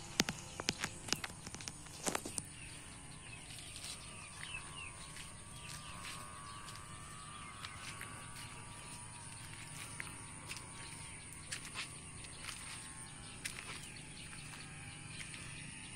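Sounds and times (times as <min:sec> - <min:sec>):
high insect hum: 0:00.0 - 0:15.9
bird chirps: 0:00.1 - 0:15.9.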